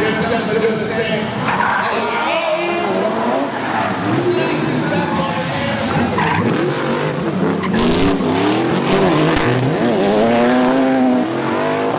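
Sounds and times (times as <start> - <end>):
car engines revving: 0.0 - 11.9.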